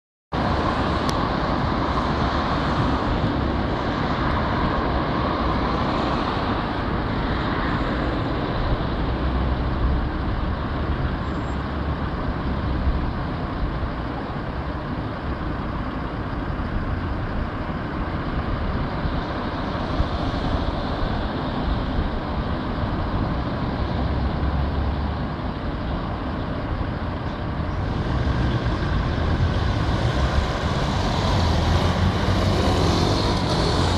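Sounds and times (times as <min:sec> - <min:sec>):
car engines running: 0:00.4 - 0:33.9
vehicles driving past: 0:00.4 - 0:33.9.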